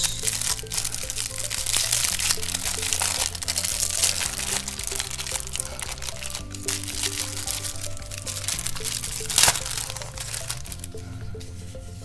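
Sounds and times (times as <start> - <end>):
plastic sleeve crinkling: 0.0 - 11.2
background music: 0.0 - 12.0.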